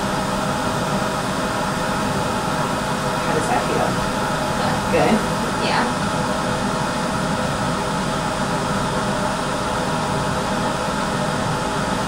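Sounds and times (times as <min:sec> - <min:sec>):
fan whooshing hiss: 0:00.0 - 0:12.0.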